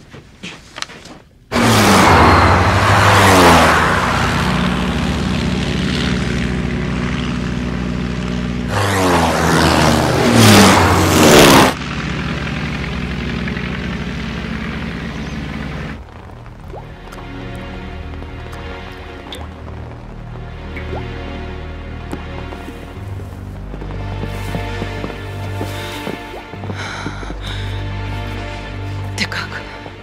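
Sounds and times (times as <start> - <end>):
propeller plane flying past: 1.5 - 30.0.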